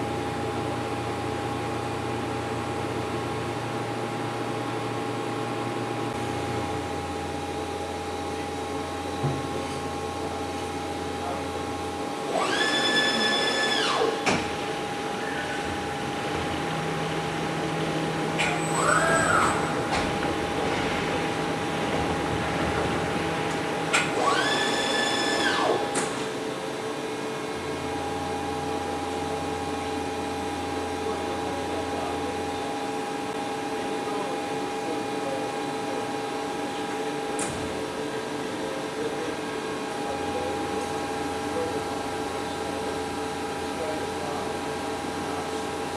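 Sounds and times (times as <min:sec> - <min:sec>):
high machine whine: 0:00.0 - 0:45.9
machine mechanical hum: 0:00.0 - 0:45.9.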